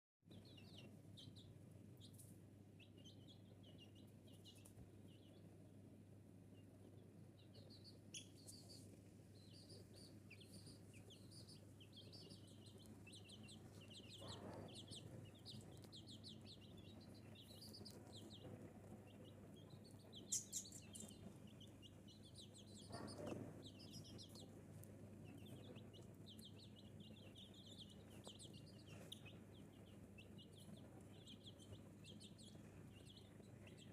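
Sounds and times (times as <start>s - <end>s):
chicks peeping: 0.3s - 33.9s.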